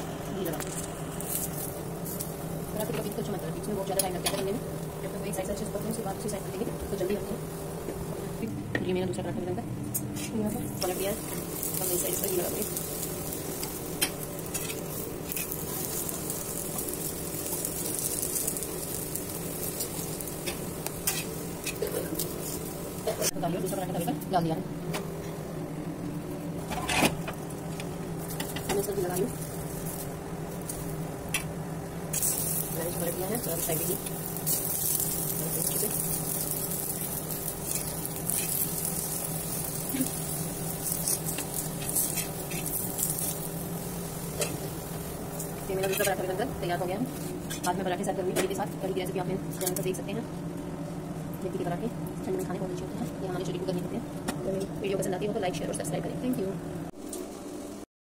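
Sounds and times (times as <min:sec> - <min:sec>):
ghee sizzling on a hot pan: 0:00.0 - 0:08.5, 0:10.4 - 0:24.6, 0:27.4 - 0:53.9, 0:54.8 - 0:57.9.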